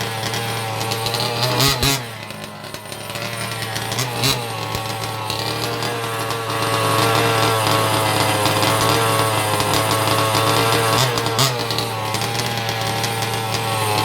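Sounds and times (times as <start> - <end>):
small two-stroke engine running: 0.0 - 14.0.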